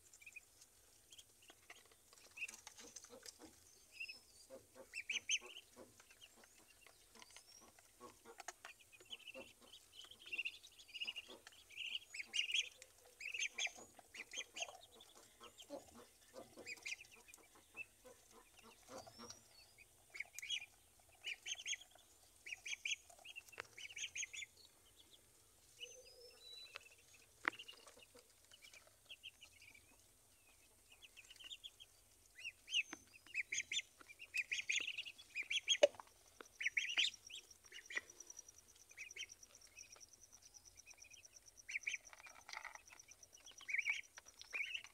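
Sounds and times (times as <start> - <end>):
ducklings peeping: 0.0 - 44.9.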